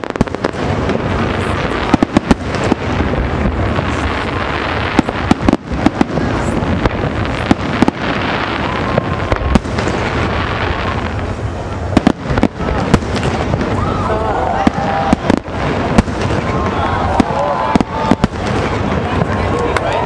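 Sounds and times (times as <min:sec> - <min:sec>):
firework bangs and crackles: 0:00.0 - 0:20.0
rumble of explosions: 0:00.0 - 0:20.0.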